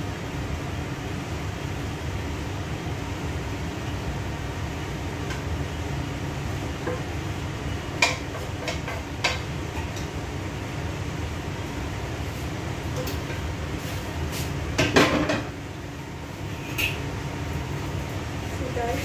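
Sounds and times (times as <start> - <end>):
low fan hum: 0.0 - 19.0.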